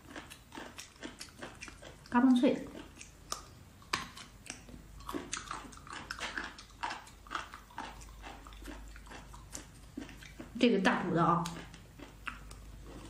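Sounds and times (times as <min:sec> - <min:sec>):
biting and chewing: 0:00.0 - 0:13.0.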